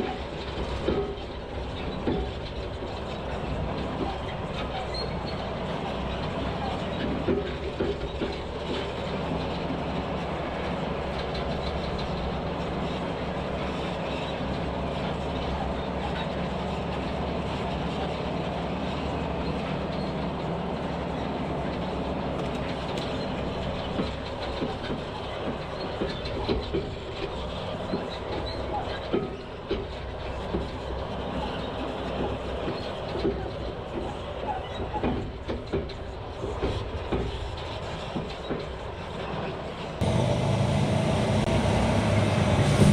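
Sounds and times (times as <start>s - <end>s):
diesel truck engine drone: 0.0s - 42.9s
rattling and clanking: 0.0s - 42.9s.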